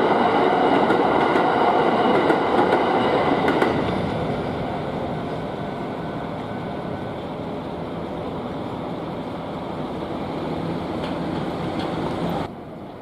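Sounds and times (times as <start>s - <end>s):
train running: 0.0s - 13.0s.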